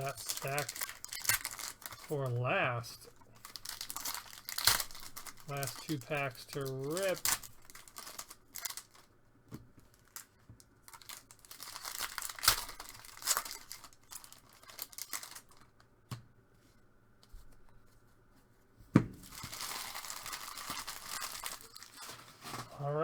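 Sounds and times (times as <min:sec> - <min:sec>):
foil wrappers tearing and crinkling: 0:00.0 - 0:09.2, 0:09.8 - 0:15.8, 0:19.2 - 0:22.9.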